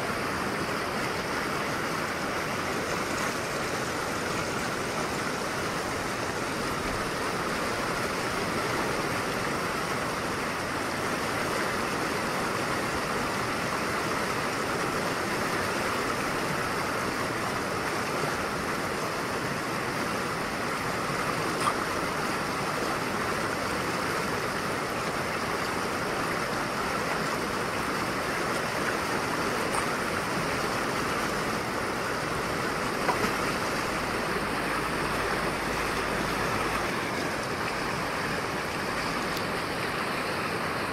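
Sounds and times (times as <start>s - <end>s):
river rushing over boulders: 0.0s - 40.9s.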